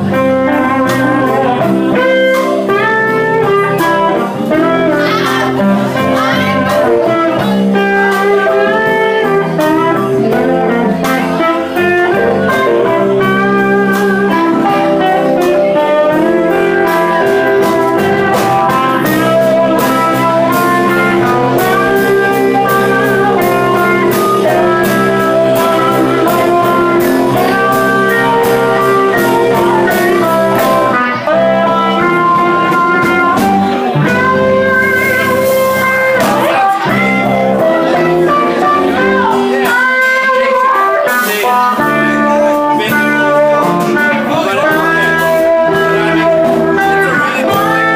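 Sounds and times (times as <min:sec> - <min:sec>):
electric guitar: 0:00.0 - 0:47.9
keyboard: 0:00.0 - 0:47.9
saxophone: 0:00.0 - 0:47.9
steady drum beat: 0:00.0 - 0:47.9.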